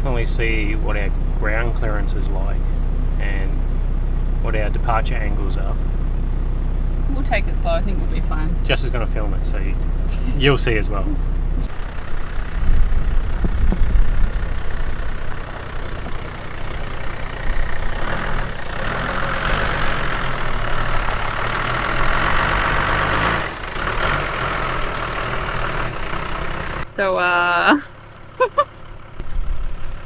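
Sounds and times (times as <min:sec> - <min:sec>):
car engine running at low speed: 0:00.0 - 0:30.0.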